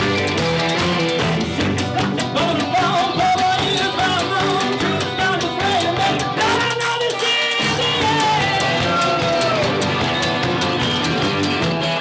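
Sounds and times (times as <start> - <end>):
man singing lead: 0.0 - 10.4
live bluegrass rock band: 0.0 - 12.0.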